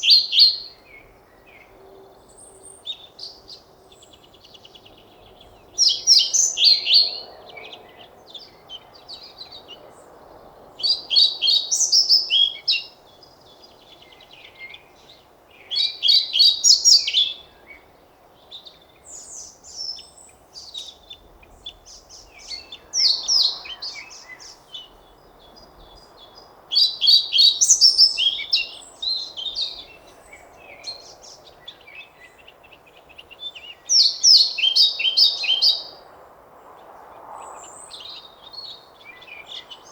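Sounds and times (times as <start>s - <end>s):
quiet bird chirps: 0.0s - 36.0s
bird song phrases: 0.0s - 39.9s.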